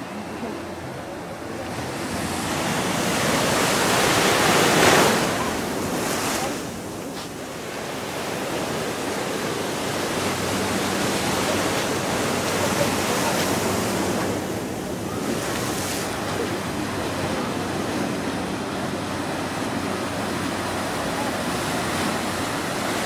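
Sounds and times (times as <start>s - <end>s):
ocean waves washing: 0.0s - 23.0s.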